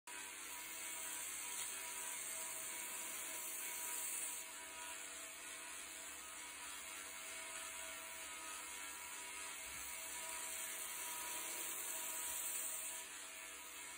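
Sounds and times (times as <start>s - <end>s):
belt grinder running: 0.1s - 13.9s.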